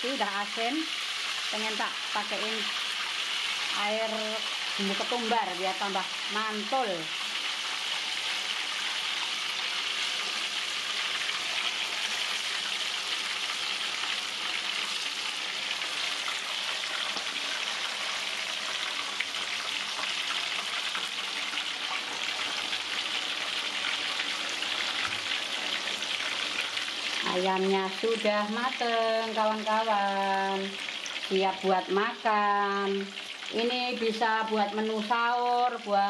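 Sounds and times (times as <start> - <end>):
tofu deep-frying in oil: 0.0 - 36.0.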